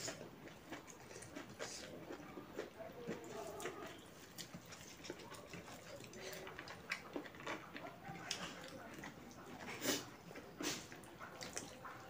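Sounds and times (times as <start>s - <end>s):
chewing with wet mouth smacks: 0.0s - 12.0s
fingers mixing food on a plate: 0.0s - 12.0s.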